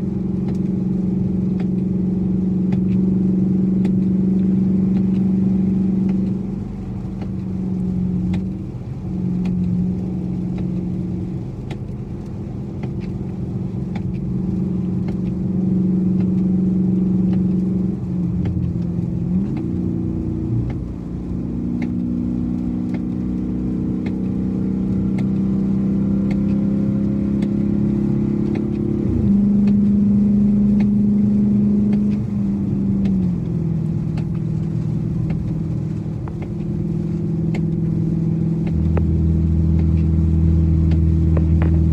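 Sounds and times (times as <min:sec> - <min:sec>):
car engine accelerating: 0:00.0 - 0:41.9.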